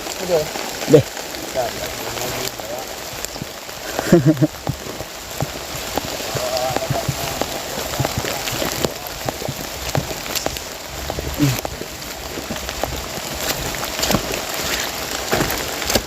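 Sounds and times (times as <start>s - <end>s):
heavy rain pouring: 0.0s - 16.0s
sharp raindrop hits: 0.0s - 16.0s.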